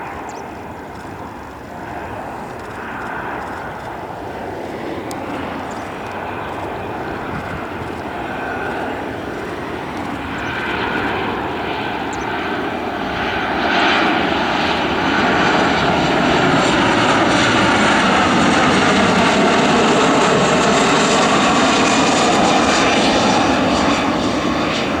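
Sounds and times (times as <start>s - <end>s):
jet engines landing: 0.0s - 25.0s.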